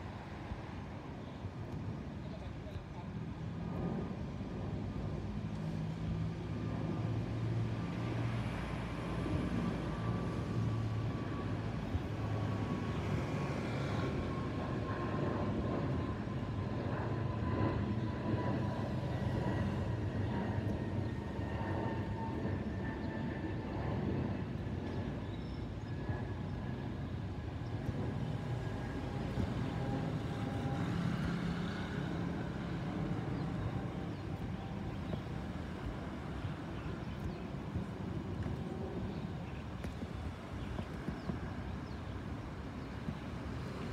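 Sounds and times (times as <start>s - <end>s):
jet engine rumble: 0.0s - 43.9s
jet engine whine: 0.0s - 43.9s.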